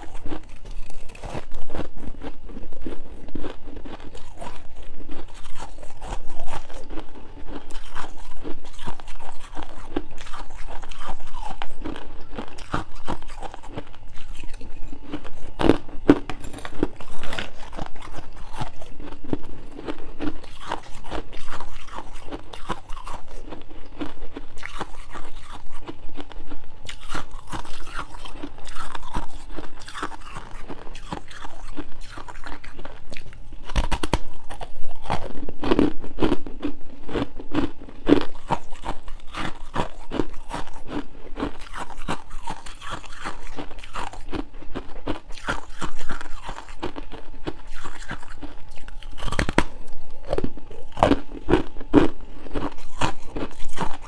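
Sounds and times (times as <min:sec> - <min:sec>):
crunching and chewing ice: 0:00.0 - 0:54.0.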